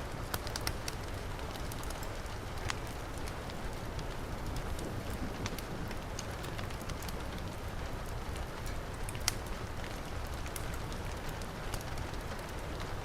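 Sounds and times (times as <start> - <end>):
heavy rain falling: 0.0 - 13.0
wood fire crackling and popping: 0.0 - 13.0.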